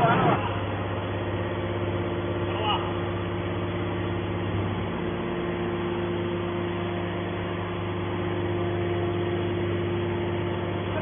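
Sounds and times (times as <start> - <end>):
baler machine hum: 0.0 - 11.0.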